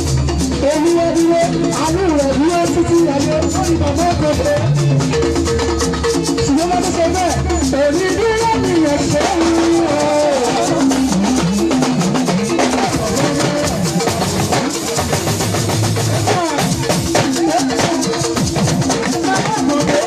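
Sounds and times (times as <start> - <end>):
drum kit beat: 0.0 - 20.0
live gospel band music: 0.0 - 20.0.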